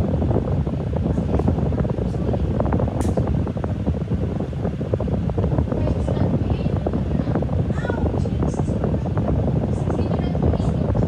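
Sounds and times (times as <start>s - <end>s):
fan noise: 0.0s - 11.0s.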